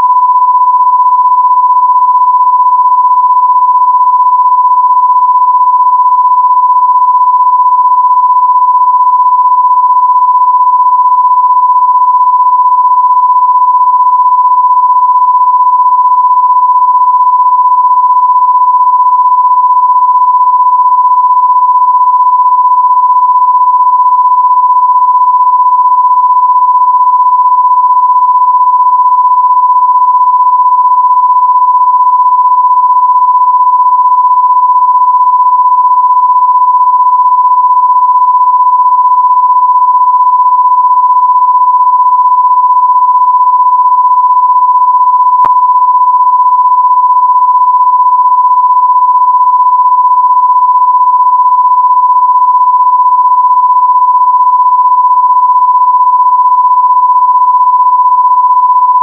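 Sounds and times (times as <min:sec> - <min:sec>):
electronic sine tone: 0:00.0 - 0:59.0.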